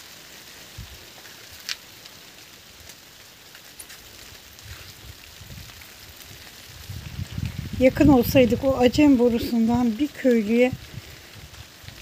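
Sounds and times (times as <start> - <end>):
rain falling on foliage: 0.0 - 12.0.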